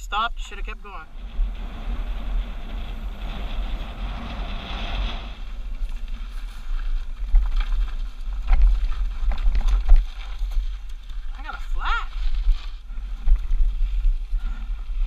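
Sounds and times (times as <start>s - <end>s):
wind rumble on microphone: 0.0s - 15.0s
bike clicks and rattles: 1.1s - 15.0s.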